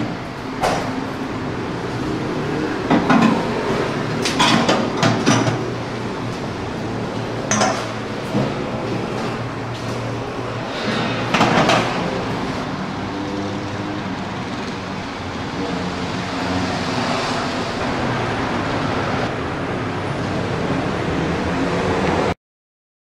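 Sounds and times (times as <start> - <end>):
gas burner rushing: 0.0 - 21.1.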